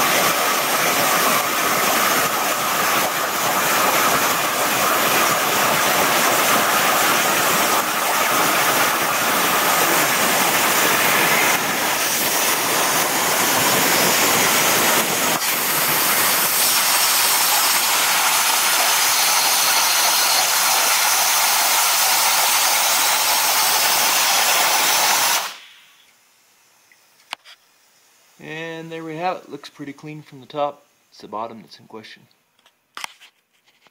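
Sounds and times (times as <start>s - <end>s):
plasma torch hissing and crackling: 0.0s - 27.5s.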